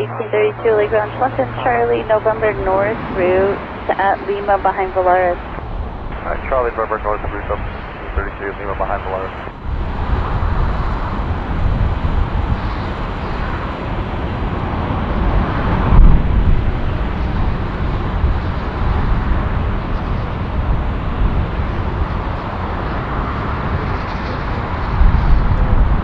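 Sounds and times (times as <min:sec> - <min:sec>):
jet engine rumble: 0:00.0 - 0:26.0.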